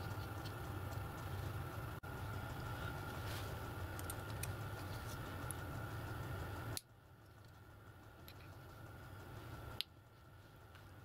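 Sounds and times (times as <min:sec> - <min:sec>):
low hum with high tone: 0:00.0 - 0:11.0.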